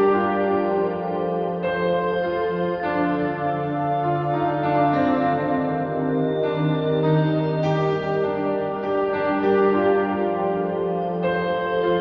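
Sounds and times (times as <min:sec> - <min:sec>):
ambient music sustained notes: 0:00.0 - 0:12.0.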